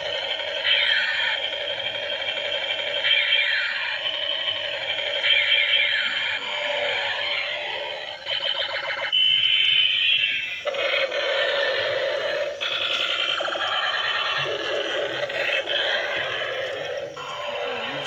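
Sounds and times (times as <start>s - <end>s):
electronic toy beeping and warbling: 0.0s - 18.0s.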